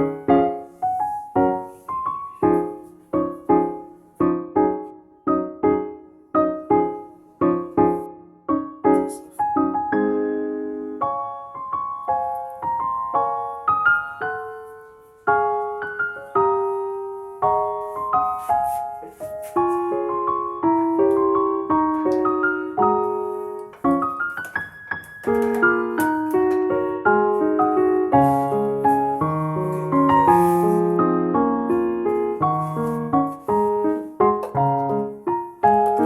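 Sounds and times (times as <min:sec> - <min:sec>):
slow piano melody: 0:00.0 - 0:36.0.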